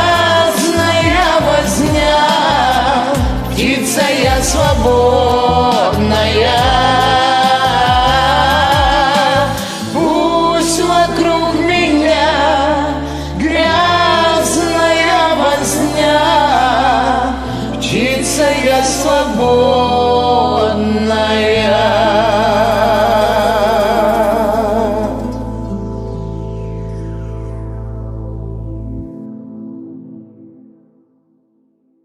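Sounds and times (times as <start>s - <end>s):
singing with vibrato: 0.0s - 26.0s
low bass notes: 0.0s - 29.9s.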